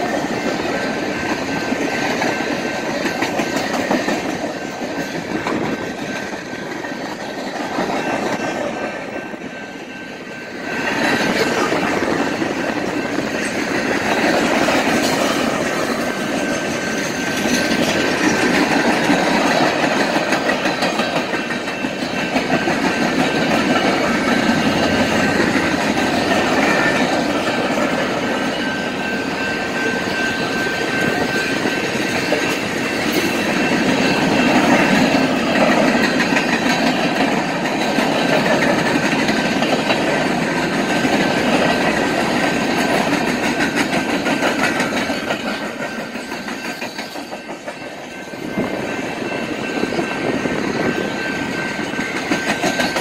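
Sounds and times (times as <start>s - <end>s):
crossing signal bell tone: 0.0s - 53.0s
freight train rumbling past: 0.0s - 53.0s
wheels clicking over rail joints: 0.0s - 53.0s.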